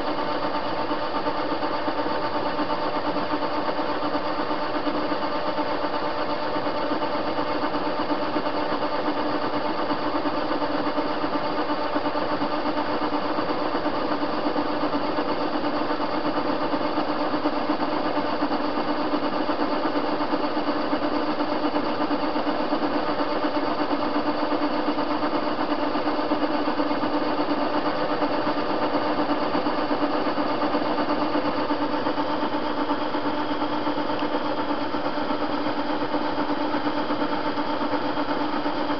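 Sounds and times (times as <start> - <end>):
metal lathe running: 0.0 - 38.9.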